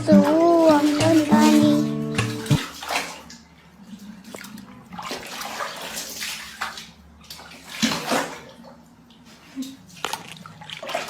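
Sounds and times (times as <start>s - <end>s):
water splashing in a bathtub: 0.0s - 11.0s.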